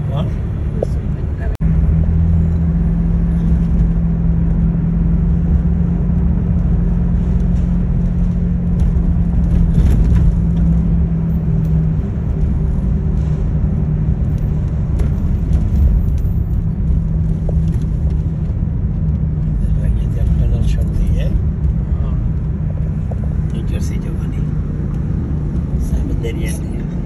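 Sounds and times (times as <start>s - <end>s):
vehicle rumbling: 0.0s - 27.0s.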